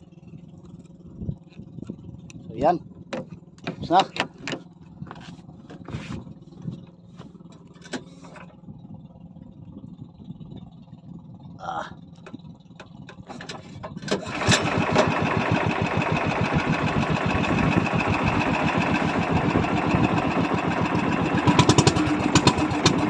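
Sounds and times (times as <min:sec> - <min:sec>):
boat engine chugging: 0:00.0 - 0:23.0.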